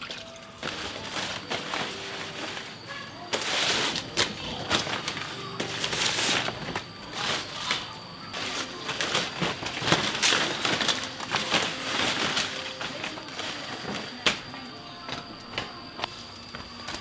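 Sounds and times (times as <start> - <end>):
dry straw rustling and crunching: 0.2 - 14.6.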